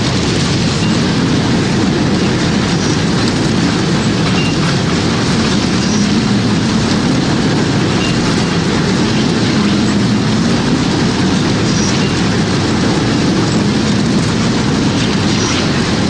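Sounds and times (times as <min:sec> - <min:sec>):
tornado wind roaring: 0:00.0 - 0:16.0.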